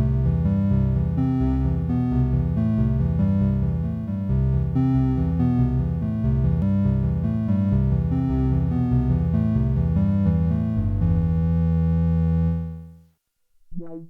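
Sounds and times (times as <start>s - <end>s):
synthesizer bass-heavy notes: 0.0s - 12.9s.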